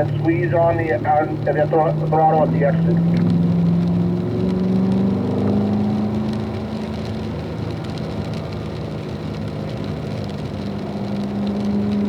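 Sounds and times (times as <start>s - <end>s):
car engine revving: 0.0s - 12.0s
tyres hissing on wet road: 0.0s - 12.0s.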